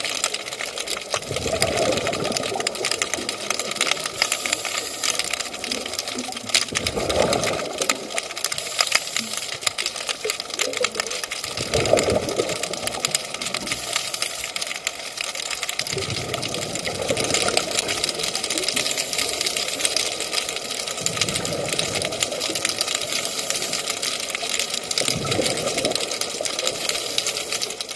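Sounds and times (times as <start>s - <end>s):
crackle of tiny underwater clicks: 0.0s - 27.9s
scuba exhaust bubbles rushing: 0.4s - 15.2s, 15.8s - 27.9s.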